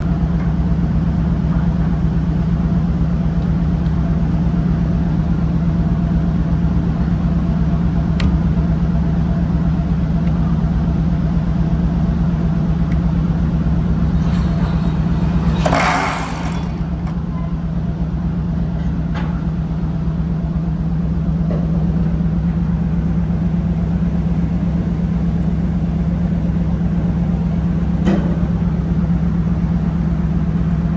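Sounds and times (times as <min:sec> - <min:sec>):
boat engine low drone: 0:00.0 - 0:30.9.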